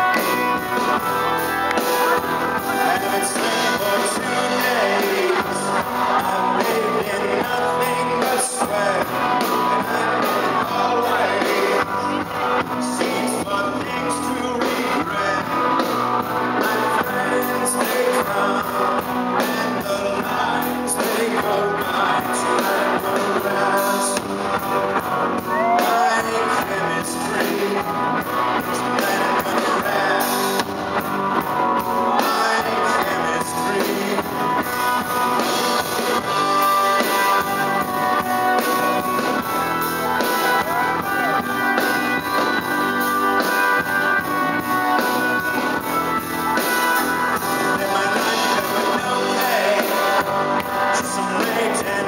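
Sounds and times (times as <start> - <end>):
person singing: 0.0 - 24.7, 25.3 - 30.9, 31.7 - 52.0
live rock band: 0.0 - 52.0.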